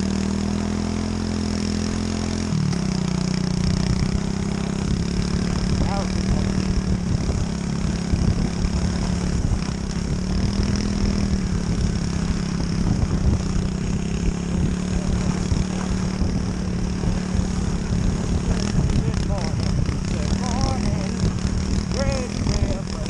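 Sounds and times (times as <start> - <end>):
motorbike engine running: 0.0 - 23.0
rough low rumble: 2.5 - 23.0.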